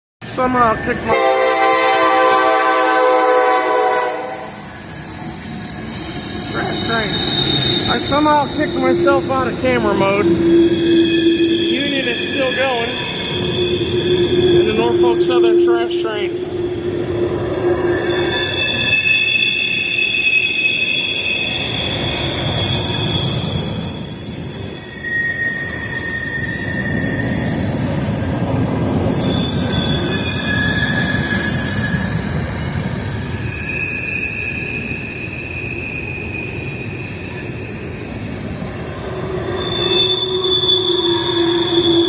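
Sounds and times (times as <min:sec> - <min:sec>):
rolling train cars rumble: 0:00.2 - 0:42.0
train wheels screeching on rails: 0:01.0 - 0:42.0.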